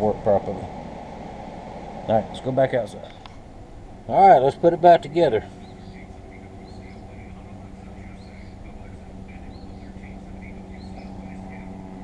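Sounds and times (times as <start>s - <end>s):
birds chirping: 0.0s - 12.0s
low mechanical hum: 0.0s - 12.0s.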